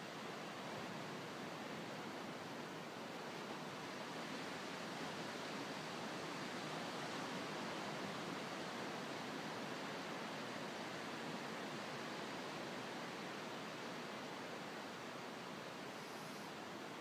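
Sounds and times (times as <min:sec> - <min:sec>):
distant waves breaking on beach: 0:00.0 - 0:17.0.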